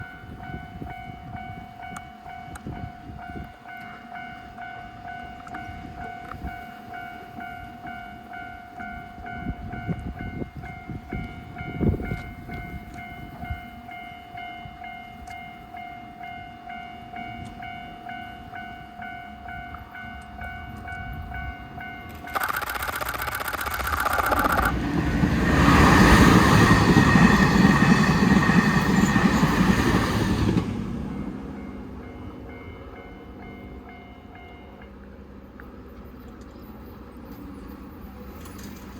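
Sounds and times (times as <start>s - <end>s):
level-crossing warning bell: 0.0s - 22.9s, 23.7s - 38.9s
train passing: 0.0s - 38.9s.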